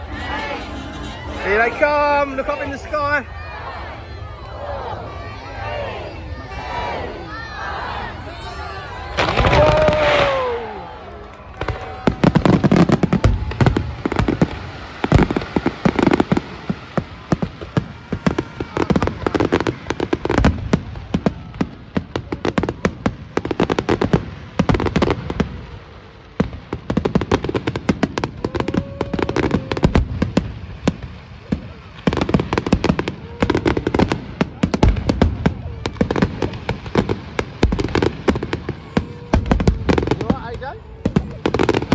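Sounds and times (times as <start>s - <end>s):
fireworks bangs and crackles: 0.0s - 7.6s, 8.3s - 41.9s.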